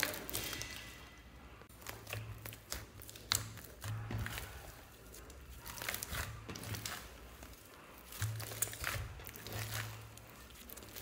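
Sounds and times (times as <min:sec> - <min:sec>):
hands squishing slime: 0:00.0 - 0:11.0.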